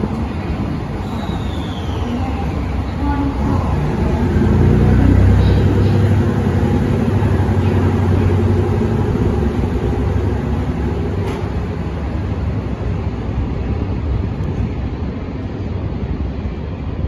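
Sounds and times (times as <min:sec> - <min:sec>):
diesel train engine drone: 0:00.0 - 0:17.0.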